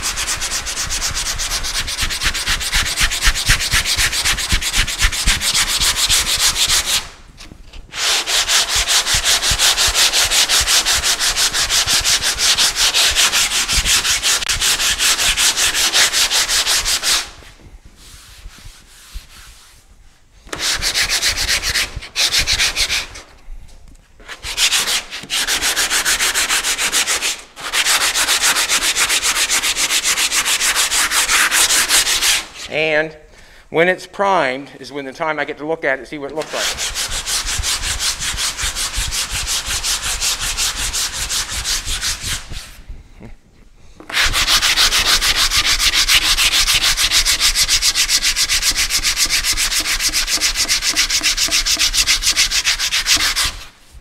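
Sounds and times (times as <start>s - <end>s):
sandpaper sanding car panel: 0.0s - 7.1s, 7.9s - 17.4s, 20.5s - 23.2s, 24.3s - 32.5s, 36.4s - 42.8s, 44.1s - 53.8s.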